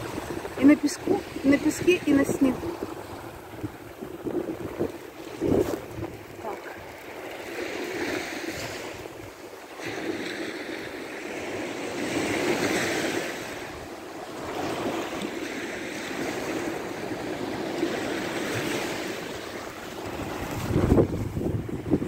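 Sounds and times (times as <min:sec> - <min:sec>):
small waves washing up beach: 0:00.0 - 0:22.0
wind on microphone: 0:00.0 - 0:22.0.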